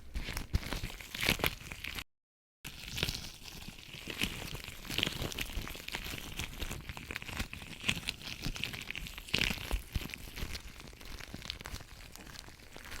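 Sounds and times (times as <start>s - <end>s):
latex gloves crinkling: 0.0s - 2.0s, 2.7s - 13.0s.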